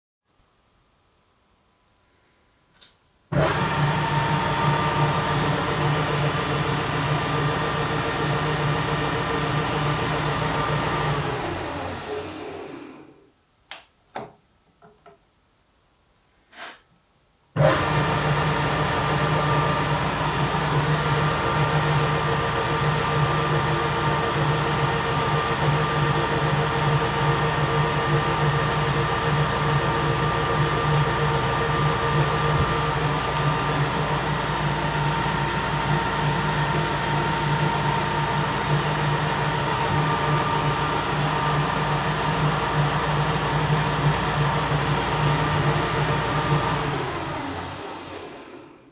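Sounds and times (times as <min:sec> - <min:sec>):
lathe running with whining hum: 0:03.3 - 0:13.2, 0:17.6 - 0:48.9.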